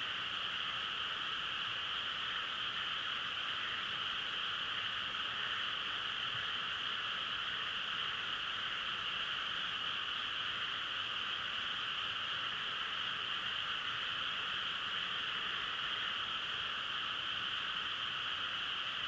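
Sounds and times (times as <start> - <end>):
chorus of frogs calling: 0.0 - 19.0.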